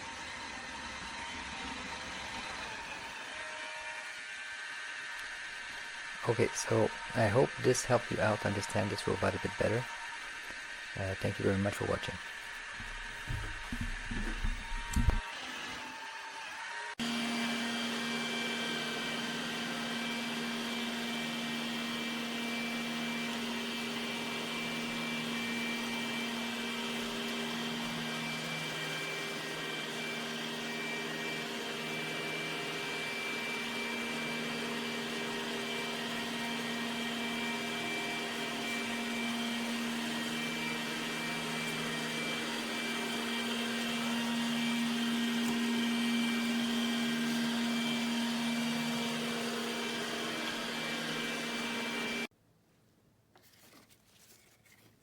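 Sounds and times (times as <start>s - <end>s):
robot vacuum cleaner running: 0.0s - 52.3s.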